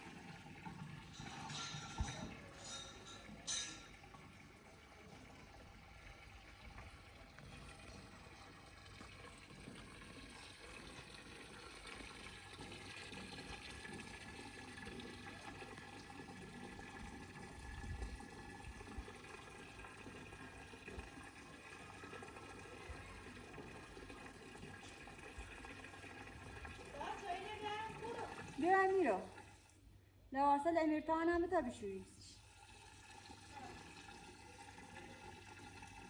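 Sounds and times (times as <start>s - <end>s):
water running: 0.0s - 30.0s, 31.4s - 36.0s.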